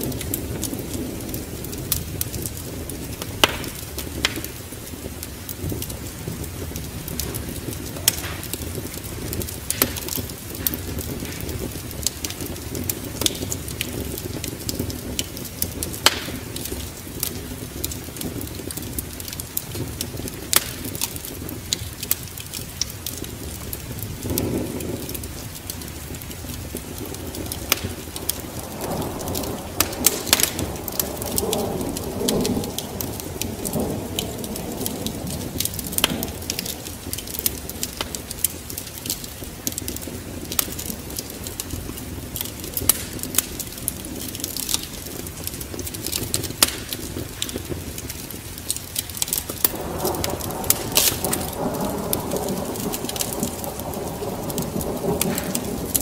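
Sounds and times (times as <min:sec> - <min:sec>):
rain hissing: 0:00.0 - 0:56.0
wind: 0:00.0 - 0:56.0
wood fire crackling and popping: 0:00.0 - 0:56.0.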